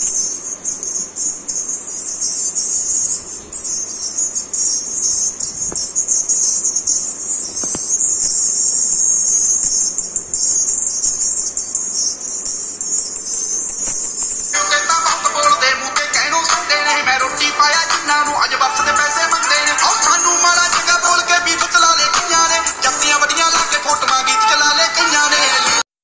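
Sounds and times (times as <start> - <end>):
thin treble music from tweeter: 0.0 - 25.8.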